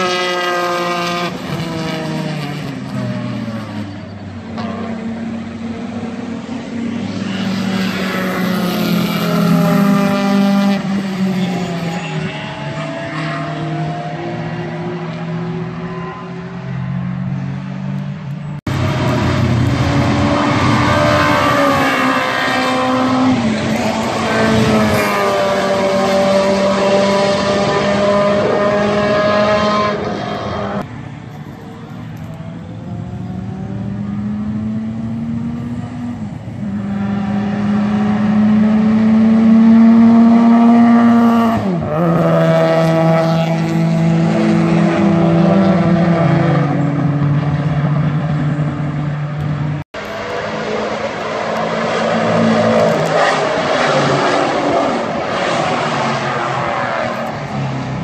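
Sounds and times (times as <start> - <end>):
race car engine revving: 0.0 - 17.9, 18.6 - 30.9, 32.2 - 58.0.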